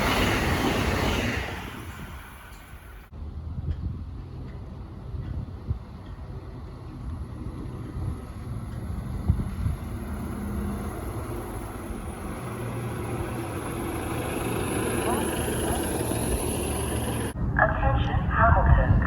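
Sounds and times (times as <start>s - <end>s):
passing vehicle rumble: 0.0s - 18.4s.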